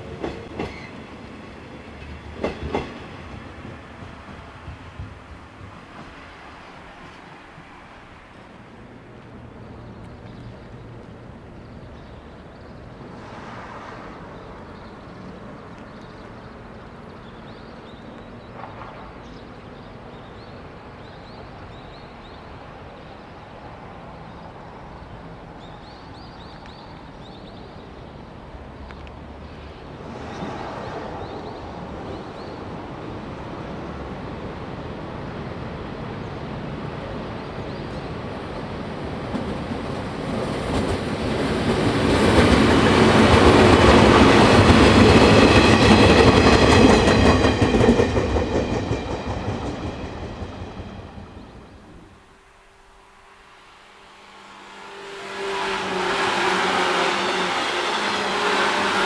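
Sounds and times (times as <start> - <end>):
electric train approaching: 0.0 - 59.0
outdoor background noise: 0.0 - 59.0.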